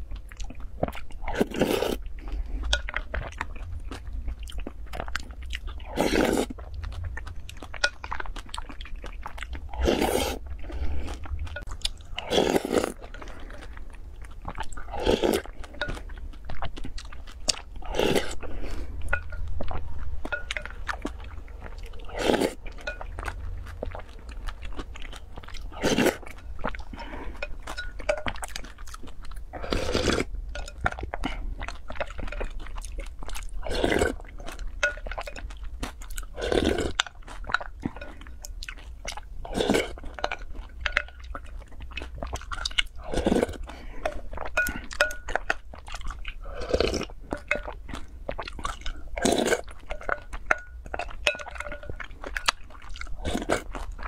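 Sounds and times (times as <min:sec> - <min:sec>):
slurping: 0:00.0 - 0:35.4, 0:36.0 - 0:38.5, 0:39.1 - 0:54.0
chewing soft fruit: 0:00.0 - 0:54.0.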